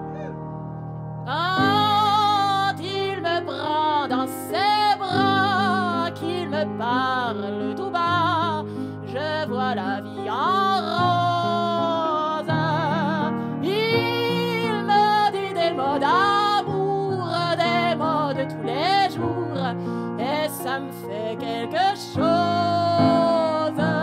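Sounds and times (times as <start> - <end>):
piano chords: 0.0 - 24.0
woman singing: 1.3 - 24.0.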